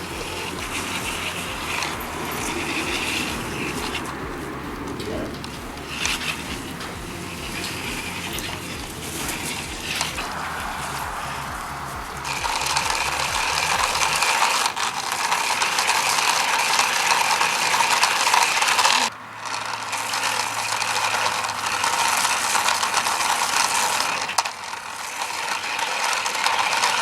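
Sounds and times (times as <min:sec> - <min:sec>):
toy car motors whirring and rattling: 0:00.0 - 0:27.0.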